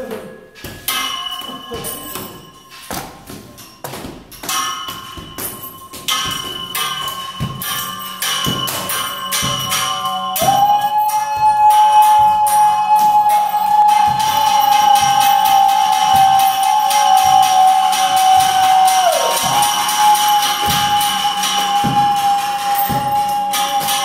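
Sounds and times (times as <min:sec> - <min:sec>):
metal railing struck ringing: 0:00.5 - 0:24.0.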